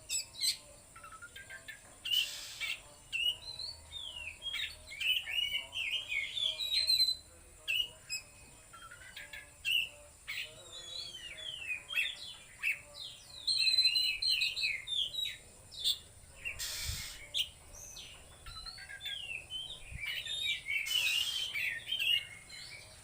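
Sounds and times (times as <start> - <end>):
bird singing chirps and whistles: 0.0 - 23.0.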